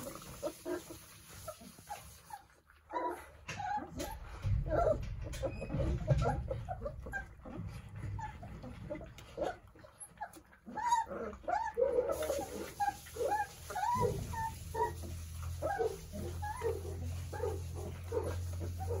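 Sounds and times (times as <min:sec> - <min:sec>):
puppies whimpering: 0:01.4 - 0:19.0.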